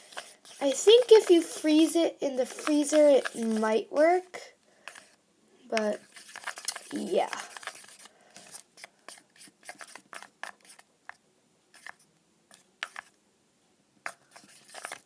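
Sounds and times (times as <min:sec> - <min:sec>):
thick mixture being stirred: 0:00.0 - 0:11.2, 0:11.8 - 0:13.1, 0:14.0 - 0:15.0.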